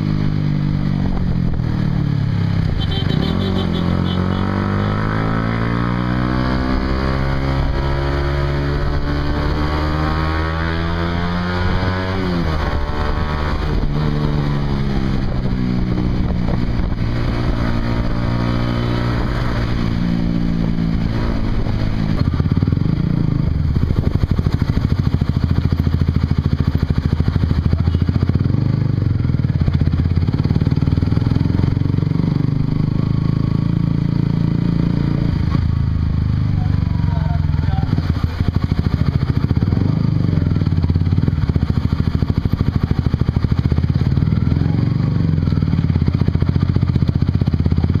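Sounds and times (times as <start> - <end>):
motorcycle engine revving through gears: 0.0 - 48.0.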